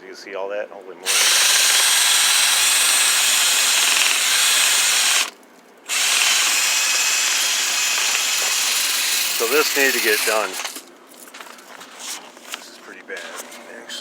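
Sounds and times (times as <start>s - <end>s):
power drill spinning brush in vent: 1.1s - 12.6s.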